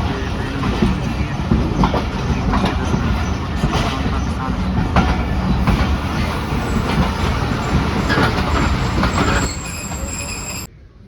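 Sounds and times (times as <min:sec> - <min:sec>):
train wheels clattering over rails: 0:00.0 - 0:10.7.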